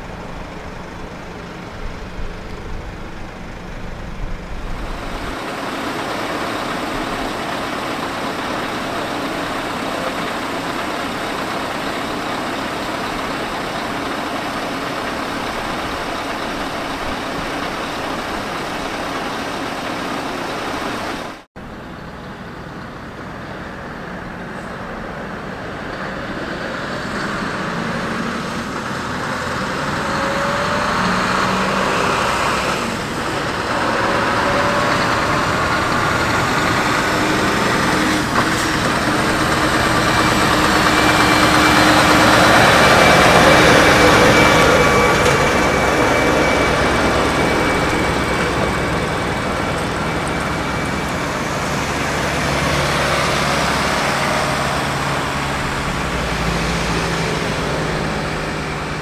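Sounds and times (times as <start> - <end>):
convoy truck engines: 0.0 - 59.0
diesel truck engine running: 0.0 - 59.0
tyre noise on road: 0.0 - 59.0.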